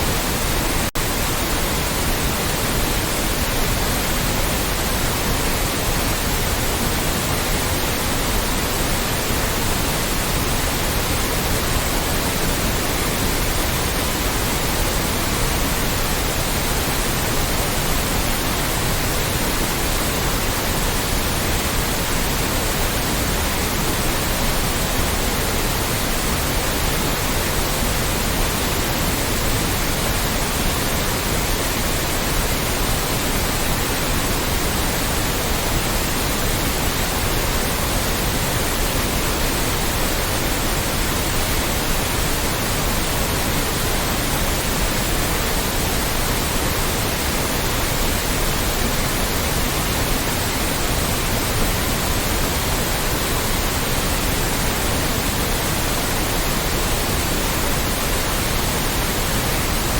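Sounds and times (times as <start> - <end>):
loud white noise: 0.0 - 59.9.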